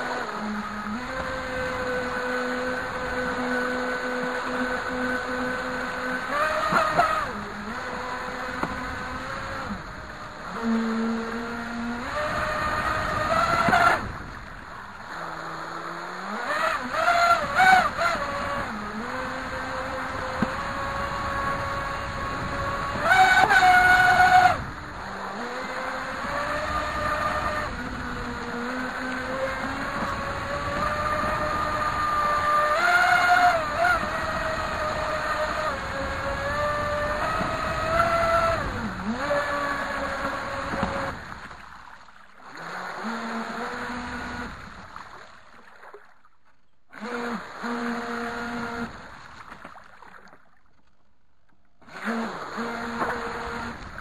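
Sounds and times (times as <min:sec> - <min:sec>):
electric motor whining: 0:00.0 - 0:41.5, 0:42.5 - 0:44.8, 0:47.0 - 0:49.1, 0:51.8 - 0:54.0
rushing water: 0:00.0 - 0:51.0.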